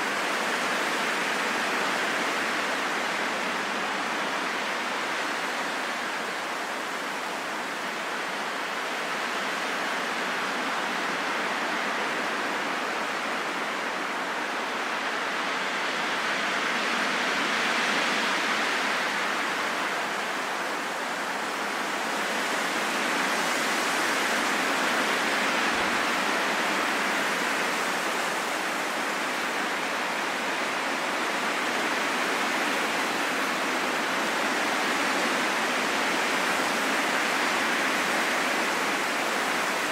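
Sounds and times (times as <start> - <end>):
steady wind hiss: 0.0 - 39.9.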